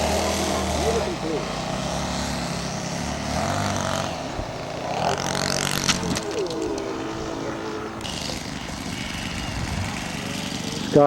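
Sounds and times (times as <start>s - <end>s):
model airplane engine running: 0.0s - 11.0s.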